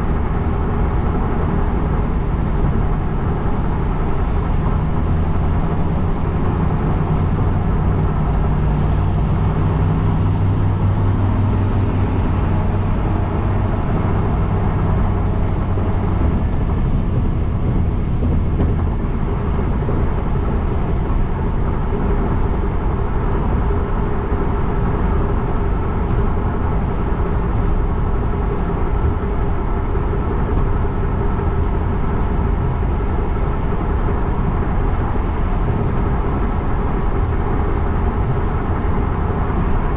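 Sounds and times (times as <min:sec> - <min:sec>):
car road noise: 0:00.0 - 0:39.9
low engine hum: 0:00.0 - 0:39.9.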